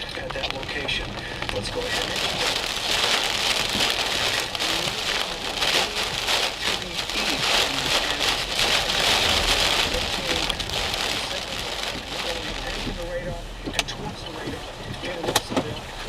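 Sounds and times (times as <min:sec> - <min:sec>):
heavy rain on car roof: 0:00.0 - 0:16.0.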